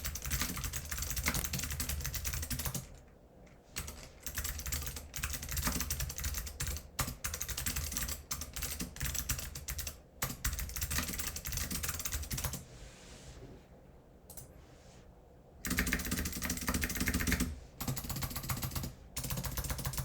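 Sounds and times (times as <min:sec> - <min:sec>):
fast typing on clicky keyboard: 0:00.0 - 0:03.0, 0:03.8 - 0:12.6, 0:15.6 - 0:20.0.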